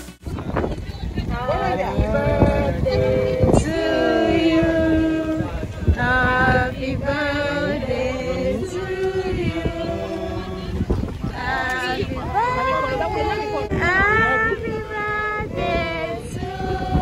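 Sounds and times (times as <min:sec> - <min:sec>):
people singing together: 0:01.2 - 0:17.0.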